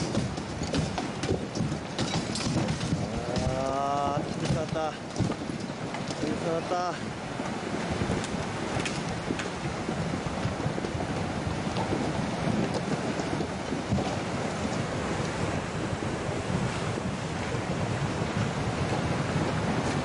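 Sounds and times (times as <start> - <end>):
floodwater rushing through debris: 0.0 - 20.0
wind buffeting microphone: 0.0 - 20.0.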